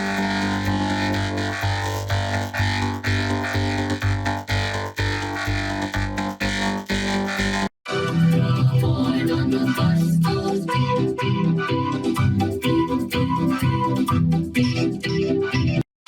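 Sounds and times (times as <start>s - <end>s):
electronic synthesizer music: 0.0s - 15.8s.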